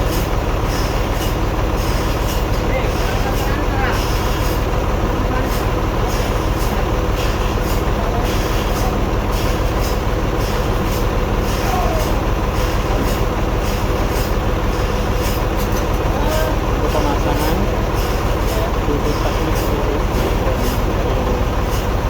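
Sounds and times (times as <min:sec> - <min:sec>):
sawmill machinery droning: 0:00.0 - 0:22.0.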